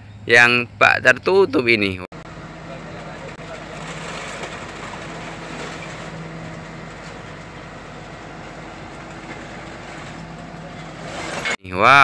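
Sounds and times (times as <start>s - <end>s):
garbage truck engine and machinery hum: 0.0s - 11.6s.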